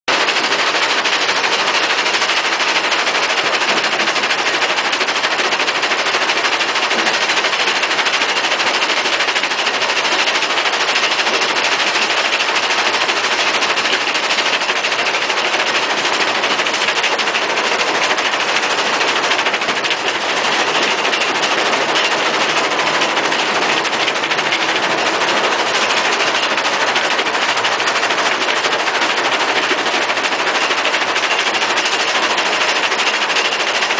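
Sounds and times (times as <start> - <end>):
asphalt rattling on vibrating screen: 0.1 - 33.9.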